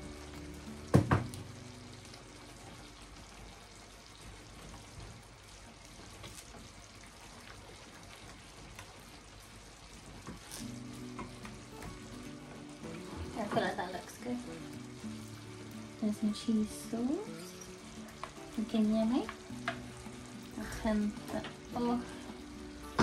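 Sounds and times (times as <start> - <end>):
sauce sizzling in pan: 0.0 - 23.0.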